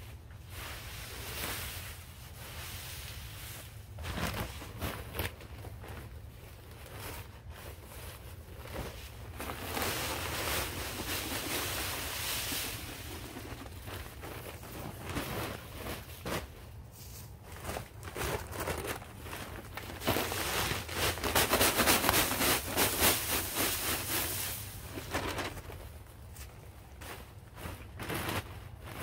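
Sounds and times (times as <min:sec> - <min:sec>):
dry leaves rustling and pouring: 0:00.2 - 0:29.0
paper bag crinkling: 0:01.1 - 0:29.0.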